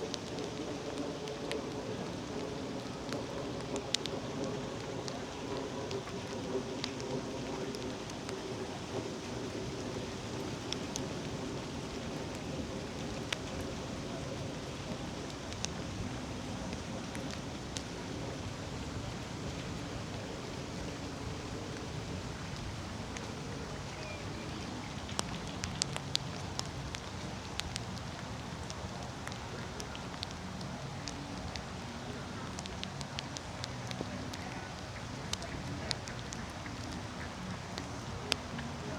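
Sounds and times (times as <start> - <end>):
raindrops ticking close by: 0.0 - 38.9
steady rain hiss: 0.0 - 38.9.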